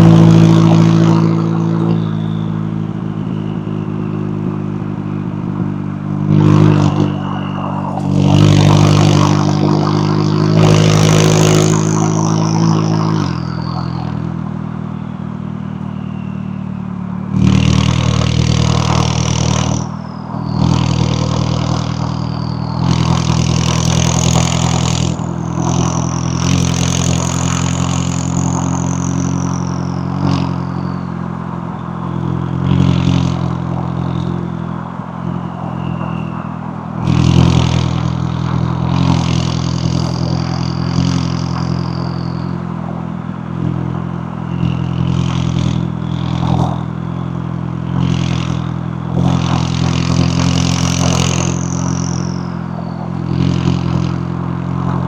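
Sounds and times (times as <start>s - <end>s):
car engine under load: 0.0s - 55.0s
high turbo whistle: 0.0s - 55.0s.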